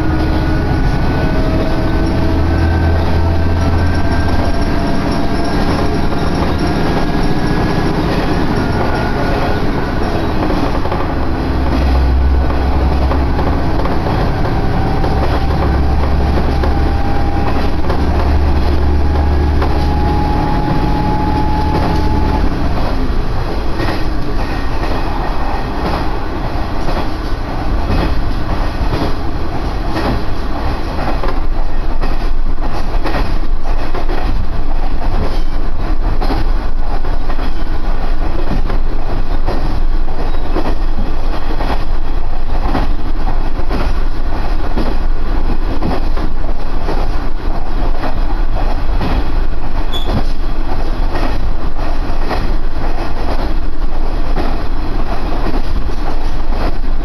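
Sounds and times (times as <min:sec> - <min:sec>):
railcar engine drone: 0:00.0 - 0:57.0
wheels clattering over rails: 0:00.0 - 0:57.0.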